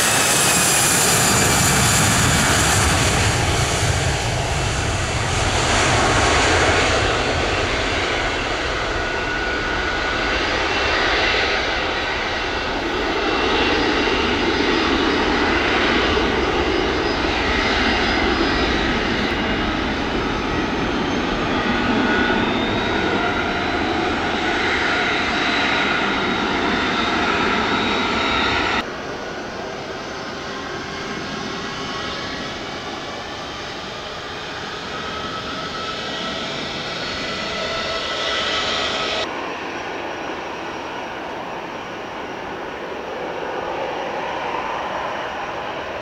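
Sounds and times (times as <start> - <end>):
airliner engines whining: 0.0 - 46.0.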